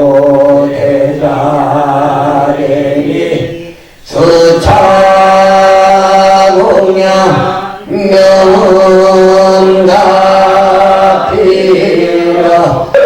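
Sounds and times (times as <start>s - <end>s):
chanting on long notes: 0.0s - 13.0s.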